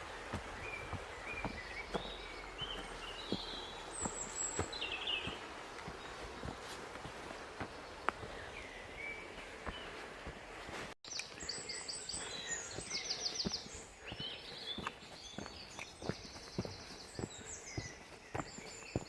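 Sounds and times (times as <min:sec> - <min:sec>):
footsteps on woodland track: 0:00.0 - 0:19.0
small birds singing: 0:00.0 - 0:19.0.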